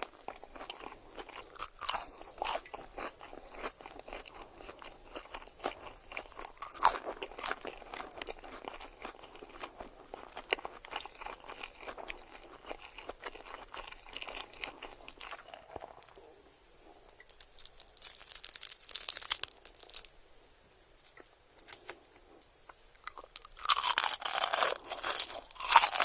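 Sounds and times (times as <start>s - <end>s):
crunchy food being chewed: 0.0s - 20.2s, 21.0s - 26.0s.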